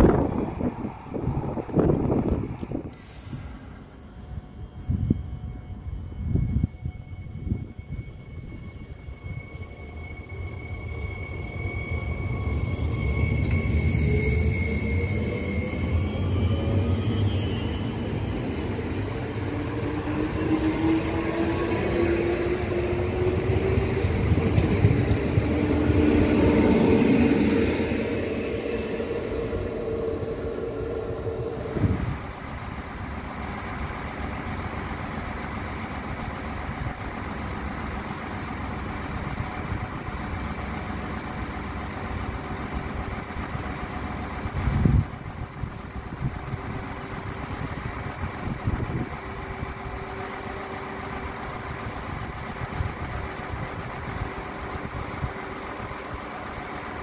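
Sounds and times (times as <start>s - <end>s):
diesel railcar running: 0.0s - 57.0s
electric train motors whining: 0.1s - 57.0s.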